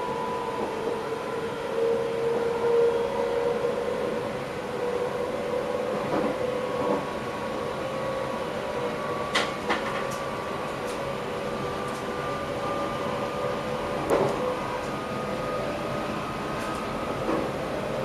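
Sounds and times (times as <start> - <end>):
electric train running with whine: 0.0 - 18.0.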